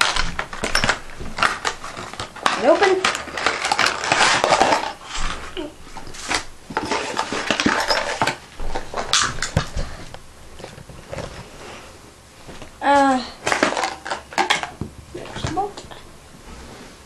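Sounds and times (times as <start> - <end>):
plastic packaging crinkling and snapping: 0.0 - 11.5, 12.5 - 16.0.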